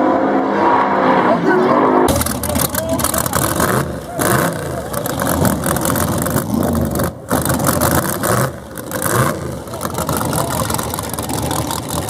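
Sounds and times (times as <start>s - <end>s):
drag car engine idling and revving: 0.0s - 12.0s.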